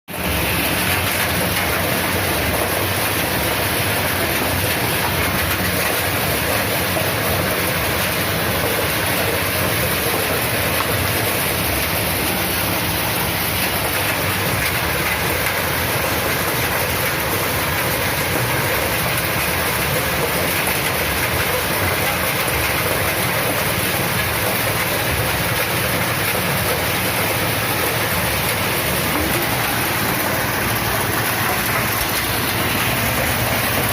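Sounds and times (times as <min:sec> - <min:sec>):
corn sheller machine running: 0:00.1 - 0:33.9.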